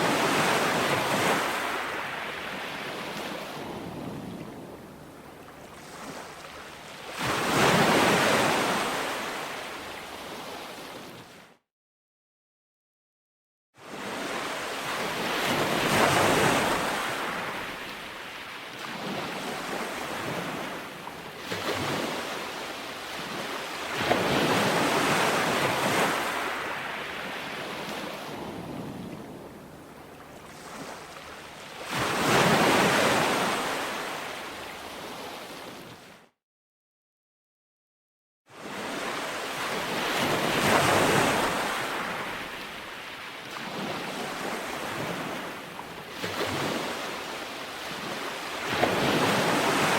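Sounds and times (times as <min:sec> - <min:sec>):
ocean waves breaking on beach: 0:00.0 - 0:11.6, 0:13.8 - 0:36.3, 0:38.5 - 0:49.9.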